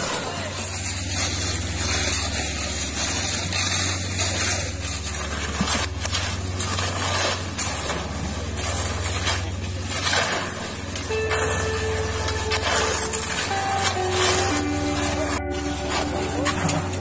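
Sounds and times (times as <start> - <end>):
shovels scraping wet concrete: 0.0 - 17.0
small engine running: 0.0 - 17.0.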